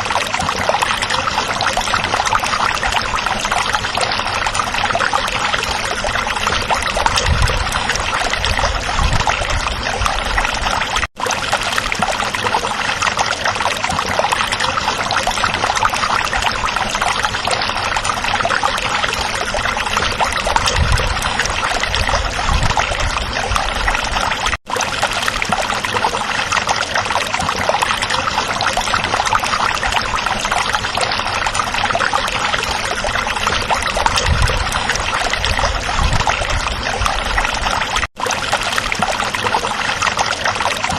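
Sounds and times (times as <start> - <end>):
stream babbling and trickling: 0.0 - 40.9.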